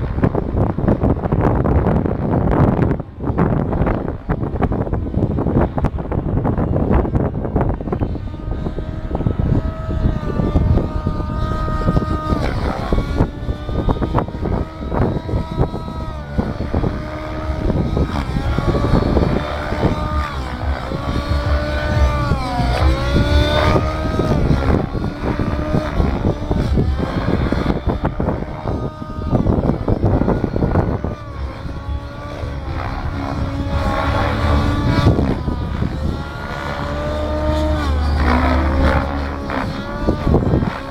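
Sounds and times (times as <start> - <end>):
model aircraft motor whining: 0.0 - 40.9
wind buffeting microphone: 0.0 - 40.9.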